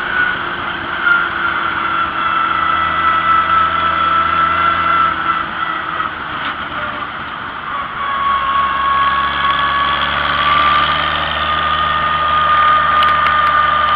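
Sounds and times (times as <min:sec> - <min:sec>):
tractor engine running: 0:00.0 - 0:13.9.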